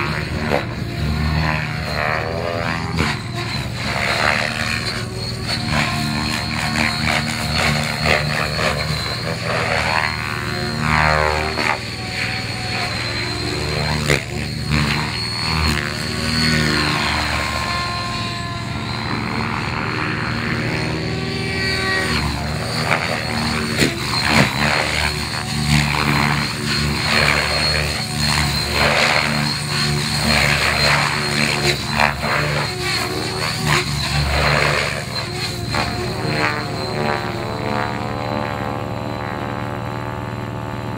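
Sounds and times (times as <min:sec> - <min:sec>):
model helicopter engine whine: 0:00.0 - 0:40.9.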